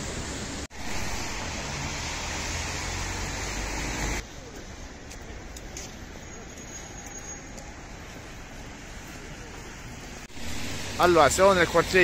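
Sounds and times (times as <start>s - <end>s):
wet street traffic hiss: 0.0s - 12.0s.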